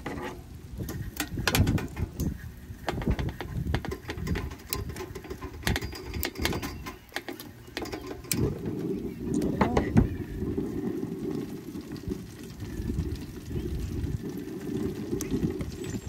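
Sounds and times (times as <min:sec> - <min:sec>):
wind rumble on microphone: 0:00.0 - 0:07.2, 0:07.8 - 0:16.0
hot oil crackling and popping: 0:00.0 - 0:16.0.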